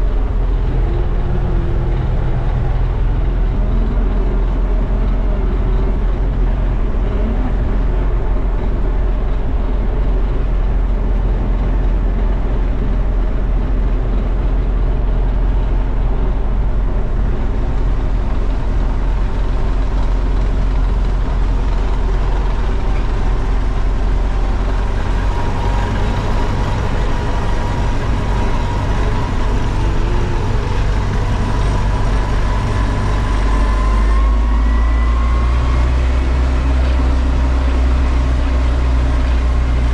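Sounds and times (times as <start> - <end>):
combine harvester engine droning: 0.0 - 39.9
rising whine: 0.0 - 39.9.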